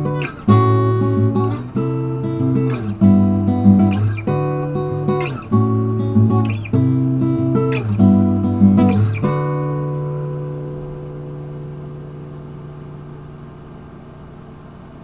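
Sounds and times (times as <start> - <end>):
acoustic guitar strumming chords: 0.0 - 14.4.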